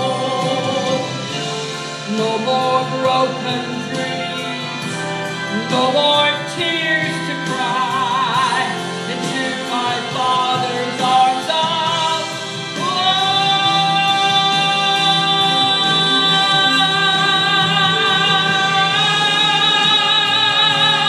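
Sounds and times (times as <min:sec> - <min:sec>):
musical accompaniment: 0:00.0 - 0:21.0
woman singing gospel song: 0:02.1 - 0:21.0.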